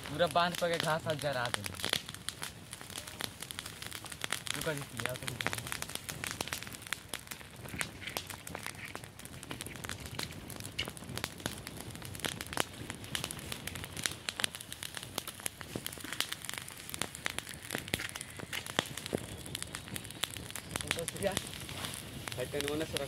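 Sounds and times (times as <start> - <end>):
grass and leaves fire crackling: 0.0 - 23.0.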